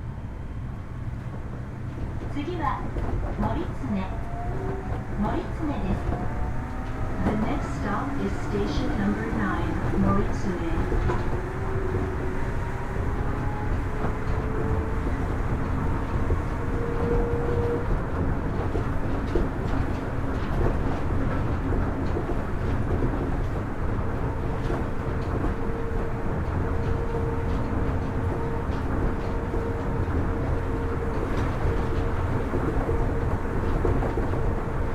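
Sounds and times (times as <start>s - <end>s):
monorail train rumble: 0.0s - 34.9s.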